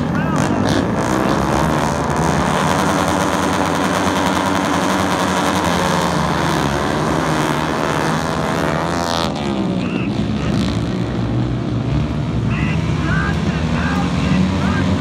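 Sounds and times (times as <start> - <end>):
racing motorcycles revving and accelerating: 0.0 - 15.0.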